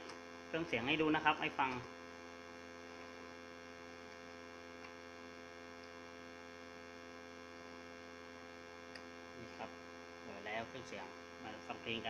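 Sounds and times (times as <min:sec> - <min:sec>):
faint buzzy electrical hum: 0:00.0 - 0:12.0.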